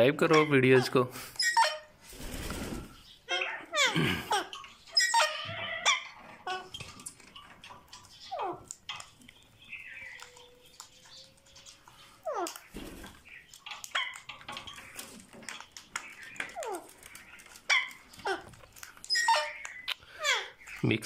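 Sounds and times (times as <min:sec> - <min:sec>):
parakeets chattering: 0:00.0 - 0:21.0.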